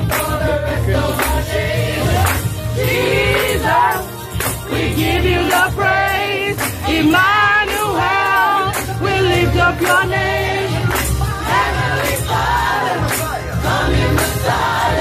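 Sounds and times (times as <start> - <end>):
band accompaniment: 0.0 - 15.0
choir singing gospel: 0.0 - 15.0
steady percussive beat: 0.0 - 15.0.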